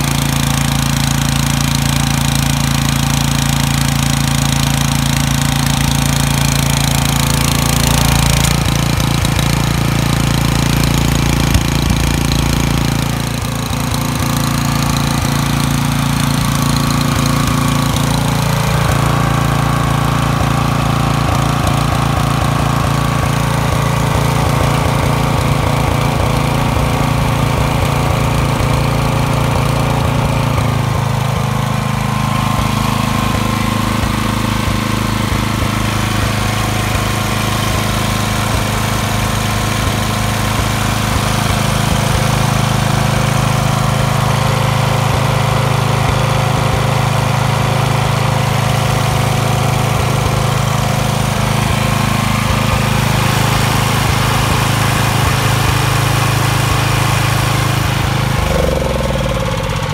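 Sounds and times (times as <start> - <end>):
engine-driven compressor running: 0.0 - 59.9.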